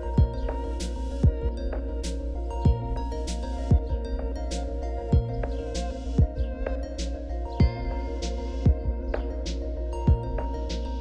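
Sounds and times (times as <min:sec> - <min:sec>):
held steady music tones: 0:00.0 - 0:11.0.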